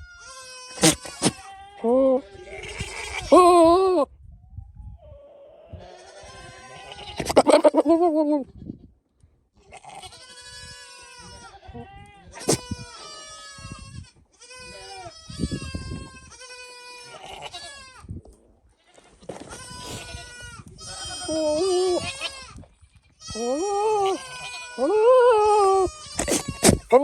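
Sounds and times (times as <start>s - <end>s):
goats bleating: 0.0s - 4.0s, 5.7s - 8.4s, 9.7s - 18.1s, 18.8s - 27.0s.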